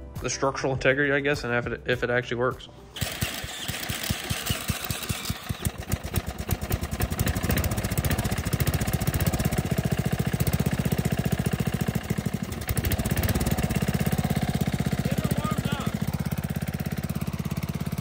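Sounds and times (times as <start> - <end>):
small mower engine running: 3.0 - 18.0.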